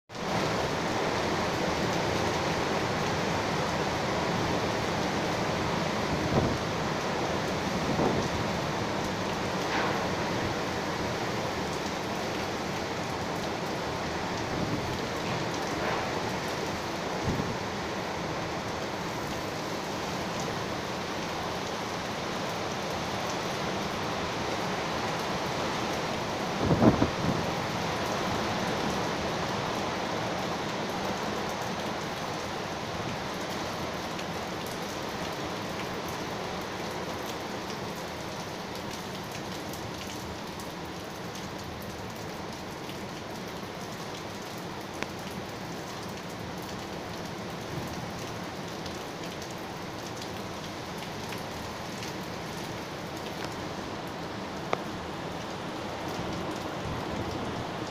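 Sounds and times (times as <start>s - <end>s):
heavy rain pouring: 0.1s - 57.9s
wind: 0.1s - 57.9s.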